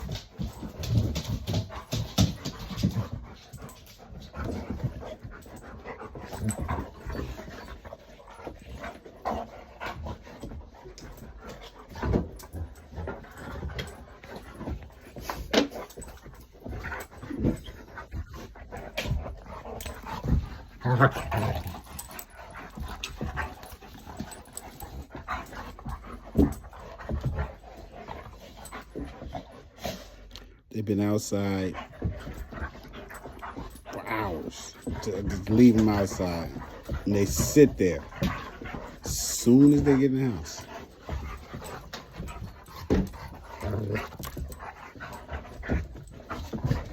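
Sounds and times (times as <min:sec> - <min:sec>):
dog claws tapping on floor: 0:00.0 - 0:29.7, 0:31.7 - 0:46.9
dogs panting: 0:00.0 - 0:46.9.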